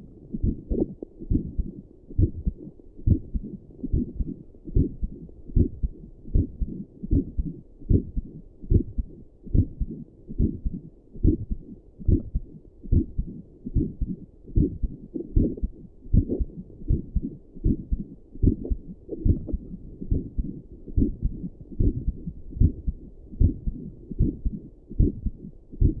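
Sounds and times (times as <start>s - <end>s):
heartbeat thumps: 0.0s - 26.0s.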